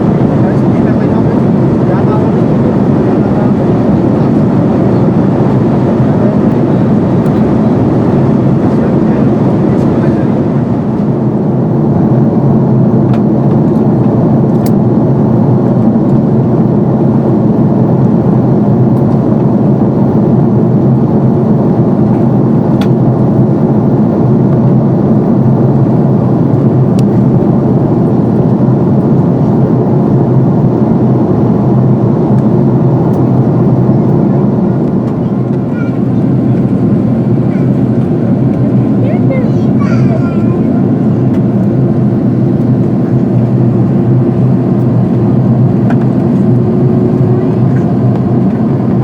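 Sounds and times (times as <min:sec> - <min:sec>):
jet cabin engine drone: 0:00.0 - 0:49.0.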